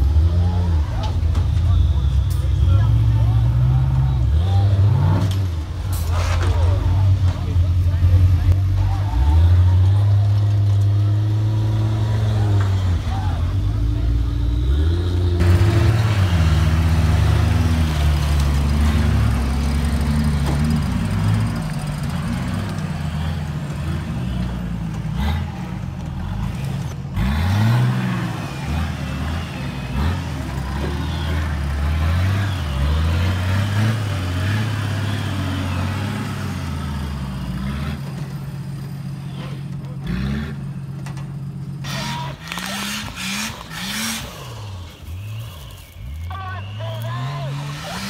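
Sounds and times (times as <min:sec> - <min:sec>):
truck engine revving: 0:00.0 - 0:48.0.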